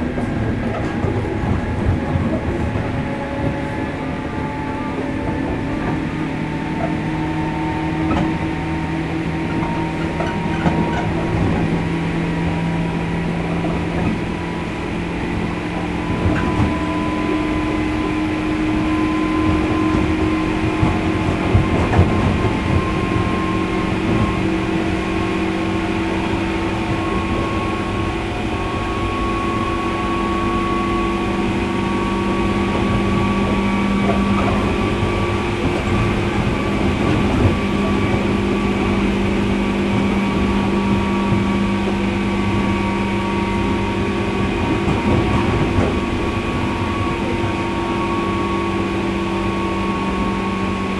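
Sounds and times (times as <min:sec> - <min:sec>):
wheels rumbling on rail: 0:00.0 - 0:50.9.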